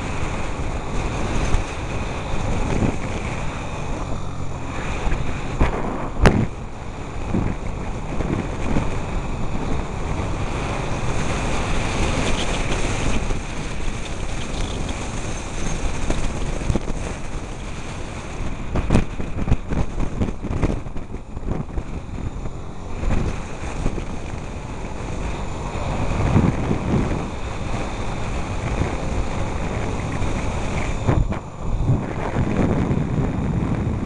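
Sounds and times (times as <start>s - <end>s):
motorcycle engine: 0.0s - 34.0s
road noise: 0.0s - 34.0s
wind buffeting microphone: 0.0s - 34.0s.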